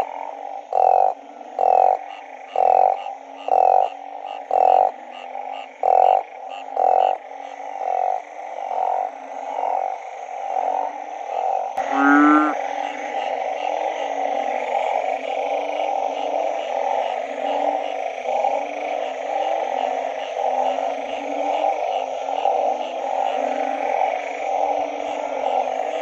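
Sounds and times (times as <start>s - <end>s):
chorus of frogs: 0.0s - 26.0s
frog call rising in pitch: 0.0s - 26.0s
loud low frog call: 0.0s - 26.0s.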